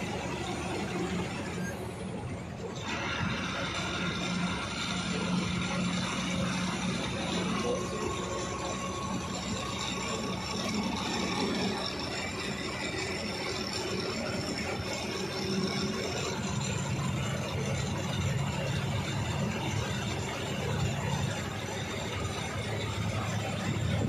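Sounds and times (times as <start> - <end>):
bus engine running: 0.0 - 24.0
road noise: 0.0 - 24.0.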